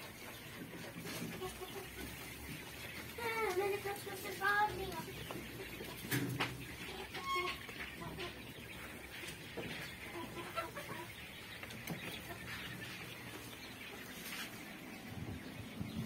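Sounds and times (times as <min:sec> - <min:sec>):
quail chicks calling: 0:00.0 - 0:16.0.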